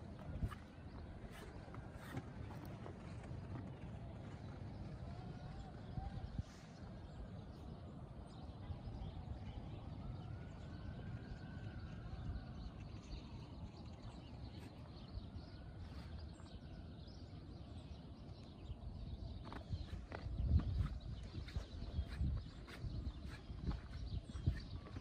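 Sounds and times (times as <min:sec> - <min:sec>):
low city rumble: 0:00.0 - 0:25.0.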